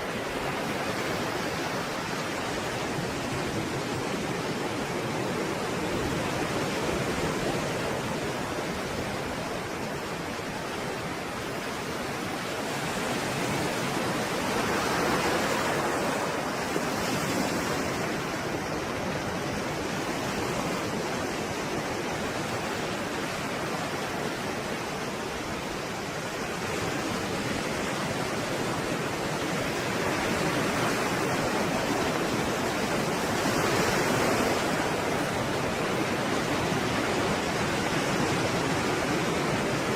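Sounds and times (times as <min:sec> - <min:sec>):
breaking waves: 0:00.0 - 0:39.9.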